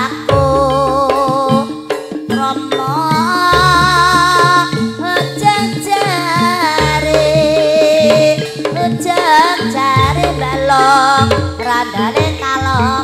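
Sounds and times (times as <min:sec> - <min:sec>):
gamelan drums: 0:00.0 - 0:13.0
sliding melodic lead line: 0:00.0 - 0:13.0.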